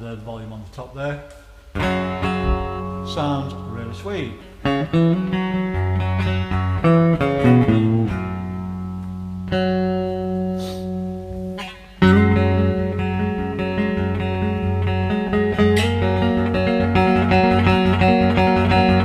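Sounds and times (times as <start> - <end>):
guitar chord ringing: 1.8 - 19.0
resonator guitar plucked notes: 1.8 - 19.0.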